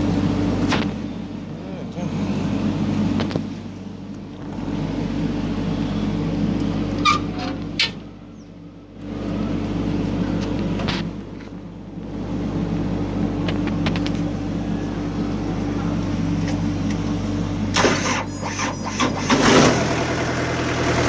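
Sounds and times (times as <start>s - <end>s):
bulldozer diesel engine idling: 0.0s - 21.0s.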